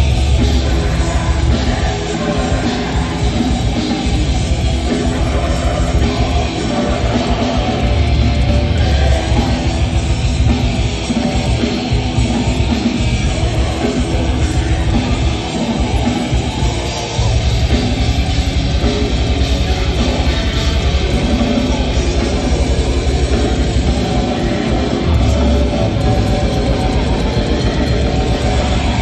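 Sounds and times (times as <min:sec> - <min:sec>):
distorted guitars: 0:00.0 - 0:29.0
fast dense drumming: 0:00.0 - 0:29.0.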